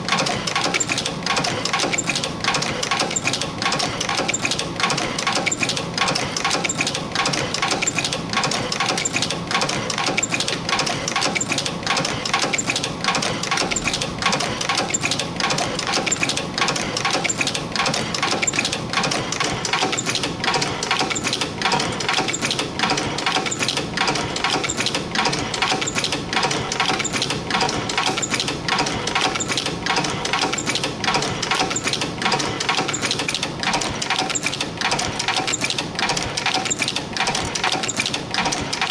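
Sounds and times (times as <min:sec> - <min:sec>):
spring making machine clattering: 0:00.0 - 0:38.9.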